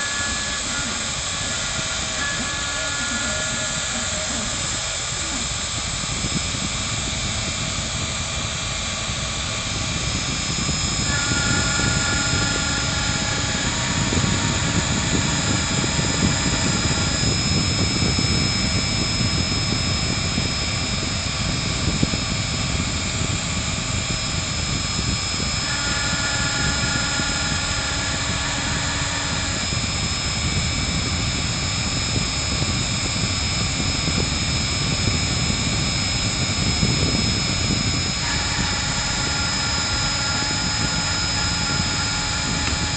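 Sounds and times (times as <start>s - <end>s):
router cutting wood: 0.0s - 42.9s
router spindle whining: 0.0s - 42.9s
stepper motors whining: 0.0s - 42.9s.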